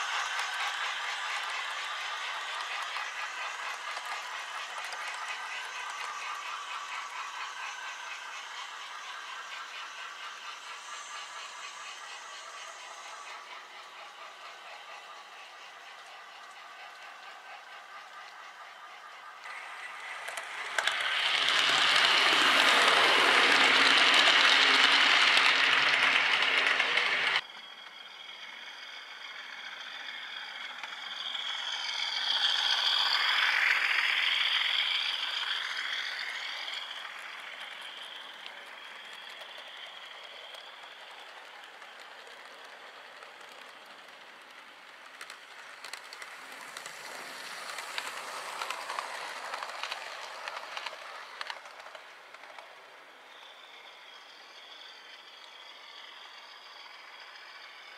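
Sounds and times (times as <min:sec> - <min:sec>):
model train motor whirring: 0:00.0 - 0:57.9
wheels rattling over rails: 0:00.0 - 0:57.9.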